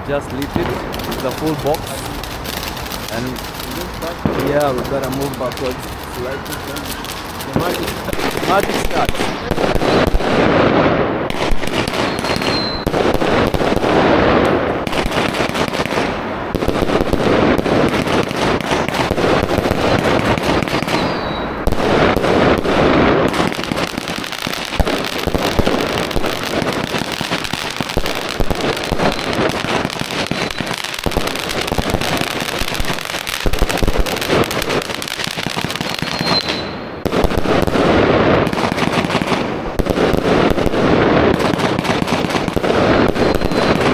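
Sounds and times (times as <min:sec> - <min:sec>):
firework whistles: 0:00.0 - 0:43.9
fireworks bangs and crackling: 0:00.0 - 0:43.9.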